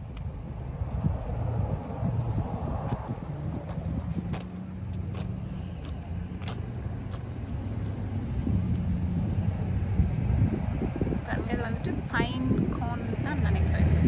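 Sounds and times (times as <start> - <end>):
car engine and tyre hum: 0.0 - 14.0.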